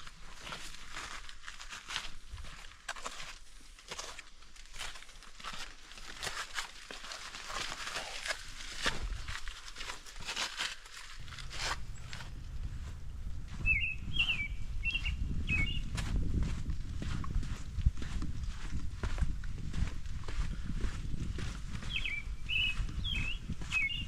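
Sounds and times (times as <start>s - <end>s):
footsteps crunching on dry trail: 0.0s - 24.0s.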